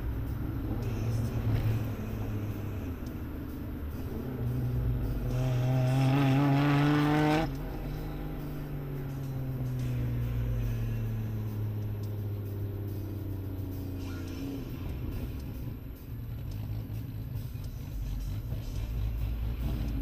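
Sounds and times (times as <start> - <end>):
car engine slowing down: 0.0 - 20.0.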